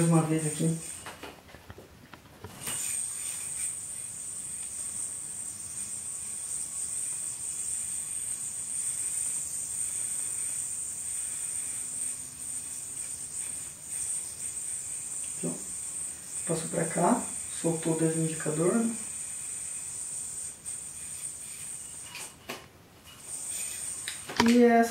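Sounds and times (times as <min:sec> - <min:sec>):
yo-yo spinning whine: 0:00.0 - 0:01.3, 0:02.4 - 0:24.4.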